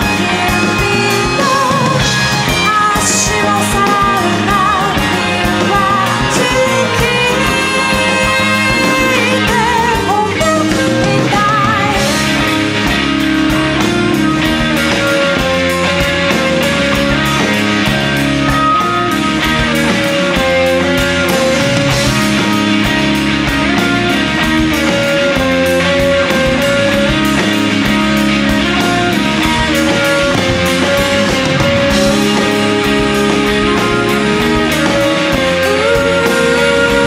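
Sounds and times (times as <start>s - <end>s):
bass: 0.0s - 37.0s
electric guitars: 0.0s - 37.0s
steady drum beat: 0.0s - 37.0s.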